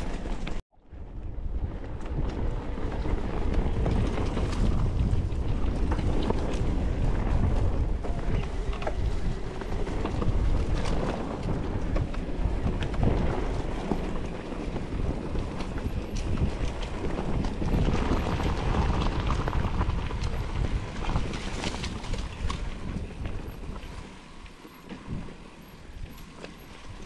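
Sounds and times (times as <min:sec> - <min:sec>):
mountain bike rattling on trail: 0:00.0 - 0:27.0
wind buffeting microphone: 0:00.0 - 0:27.0.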